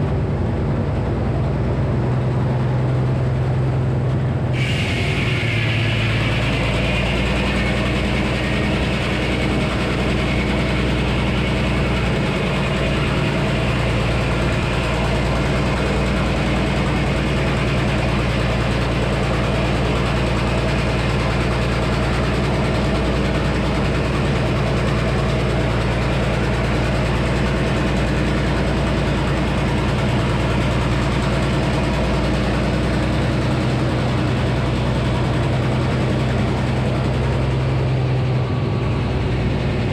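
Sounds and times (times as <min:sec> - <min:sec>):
sawmill engine running: 0:00.0 - 0:39.9
circular saw high whine: 0:04.1 - 0:39.9.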